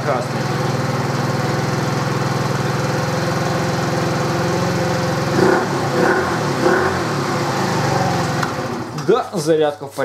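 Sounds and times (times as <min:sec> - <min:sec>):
scooter engine idling and revving: 0:00.0 - 0:09.6.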